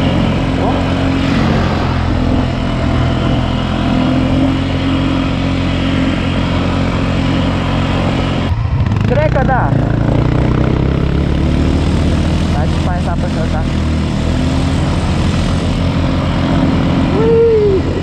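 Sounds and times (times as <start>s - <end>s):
atv engine running steadily: 0.0s - 18.0s.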